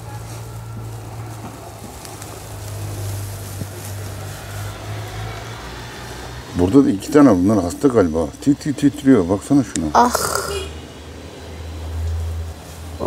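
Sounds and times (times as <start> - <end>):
faint wind: 0.0 - 13.0.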